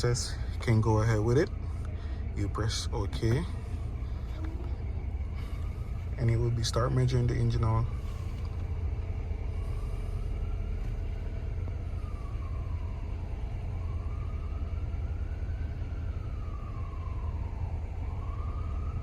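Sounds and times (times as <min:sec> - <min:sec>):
car engine idling: 0:00.0 - 0:17.1
siren wailing: 0:00.0 - 0:19.0.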